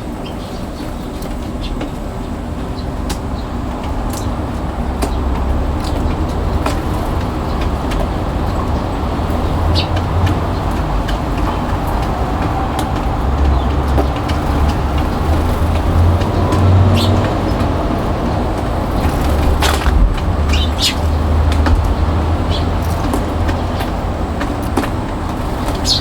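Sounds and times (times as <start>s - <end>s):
heavy rain pattering: 0.0s - 26.0s.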